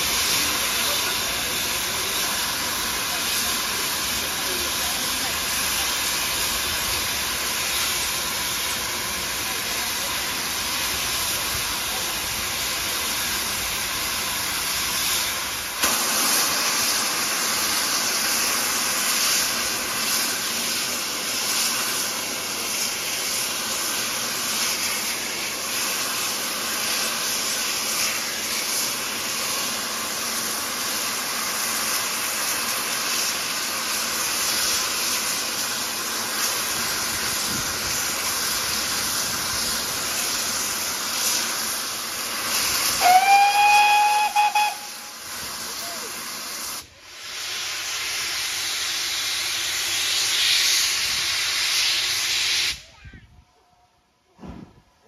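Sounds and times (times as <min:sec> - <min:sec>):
locomotive steam hissing: 0:00.0 - 0:53.3.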